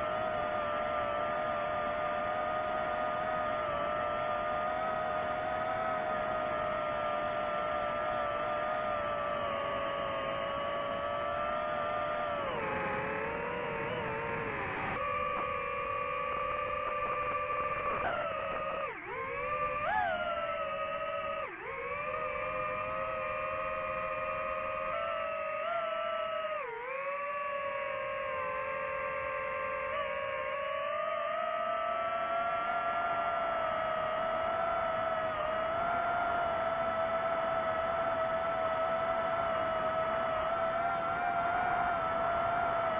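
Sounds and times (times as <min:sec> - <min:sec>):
quadcopter motors whining: 0:00.0 - 0:42.9.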